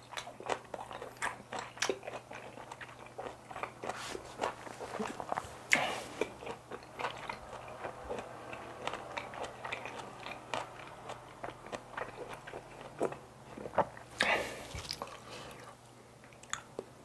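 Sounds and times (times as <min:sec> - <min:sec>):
mouth chewing with wet clicks: 0:00.0 - 0:16.9.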